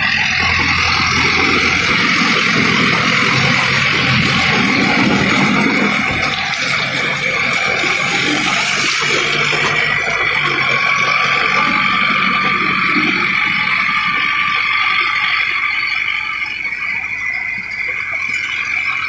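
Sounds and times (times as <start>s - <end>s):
steady high whine: 0.0s - 19.0s
tractor engine running: 0.0s - 19.0s
water and mud splashing: 0.0s - 19.0s.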